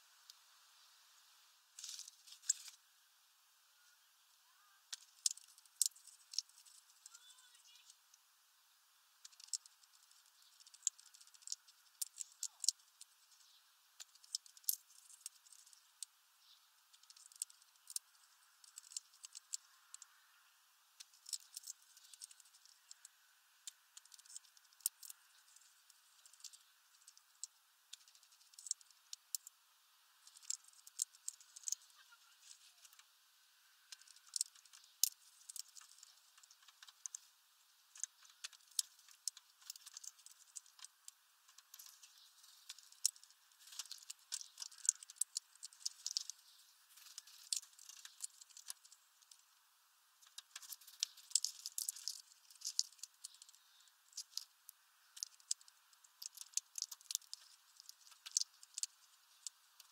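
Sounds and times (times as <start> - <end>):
bird cracking seeds: 1.8 - 2.8, 4.6 - 8.0, 9.2 - 16.1, 16.9 - 20.4, 21.0 - 29.6, 30.2 - 33.1, 33.8 - 49.6, 50.2 - 59.9.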